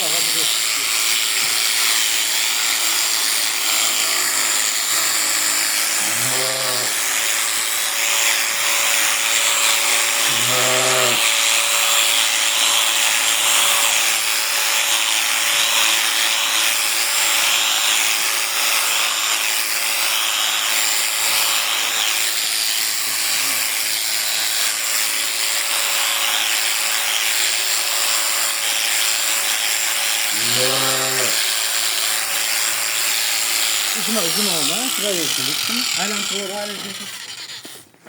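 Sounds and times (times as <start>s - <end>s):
electric clippers buzzing: 0.0s - 38.0s.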